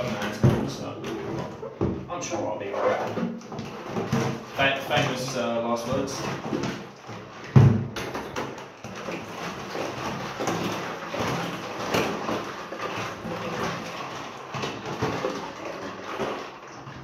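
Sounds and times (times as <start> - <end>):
liquid sloshing in plastic bucket: 0.0 - 17.0
plastic knocking and scraping: 0.0 - 17.0.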